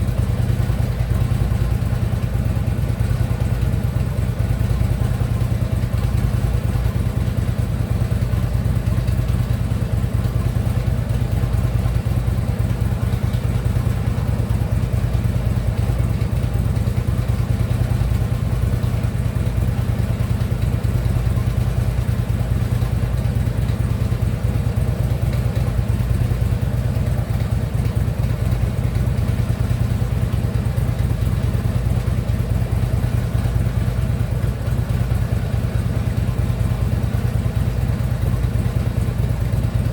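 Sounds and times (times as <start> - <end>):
engine knock: 0.0 - 39.9
motorcycle engine idling: 0.0 - 39.9.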